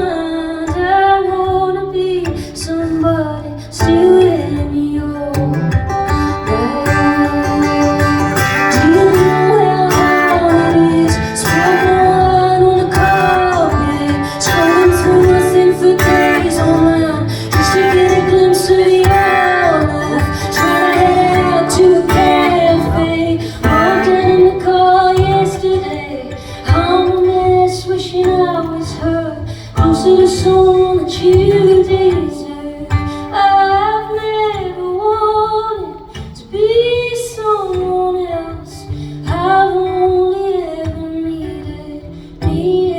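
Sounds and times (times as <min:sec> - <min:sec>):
strummed guitar: 0:00.0 - 0:42.9
woman singing: 0:00.0 - 0:42.9.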